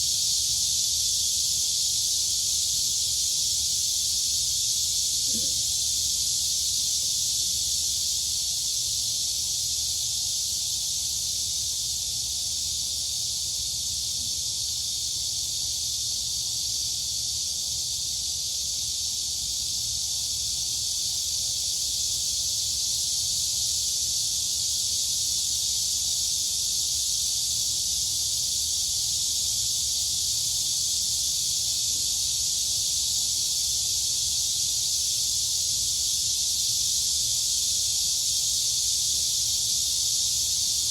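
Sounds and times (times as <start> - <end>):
crickets and cicadas chorus: 0.0 - 40.9.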